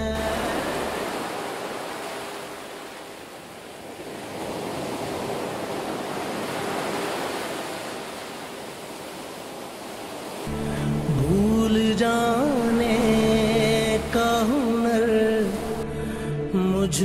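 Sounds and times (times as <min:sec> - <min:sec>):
surf washing on sandy beach: 0:00.0 - 0:11.0, 0:12.2 - 0:15.8.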